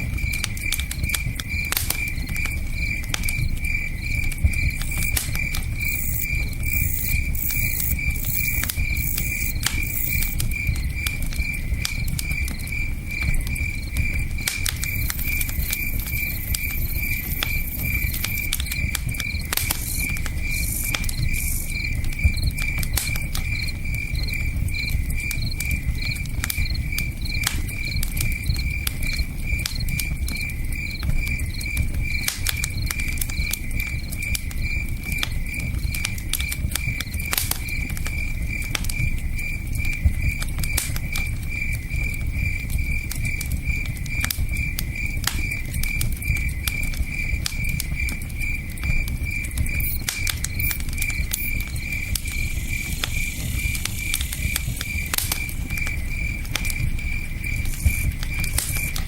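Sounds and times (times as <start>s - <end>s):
campfire crackling and popping: 0.0s - 59.0s
cricket chirping: 0.0s - 59.0s.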